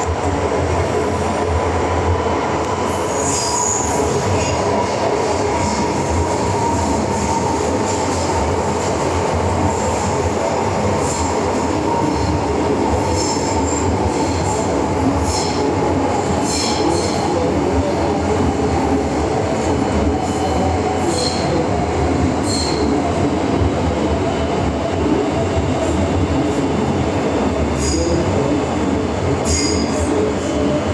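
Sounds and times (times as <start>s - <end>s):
metro train wheels rumbling: 0.0s - 30.9s.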